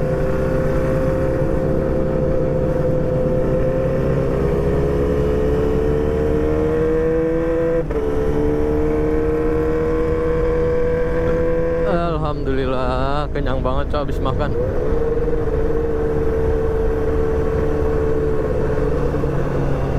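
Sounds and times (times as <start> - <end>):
motorcycle engine accelerating: 0.0 - 19.9
wind and road rumble: 0.0 - 19.9.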